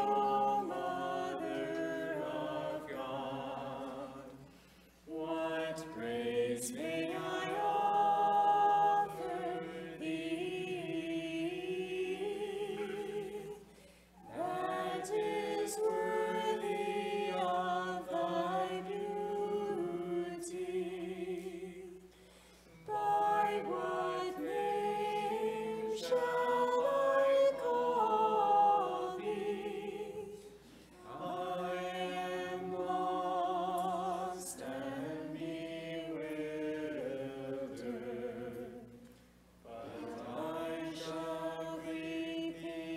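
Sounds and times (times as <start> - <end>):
group singing unaccompanied chant: 0.0 - 22.0, 22.8 - 39.0, 39.6 - 42.9.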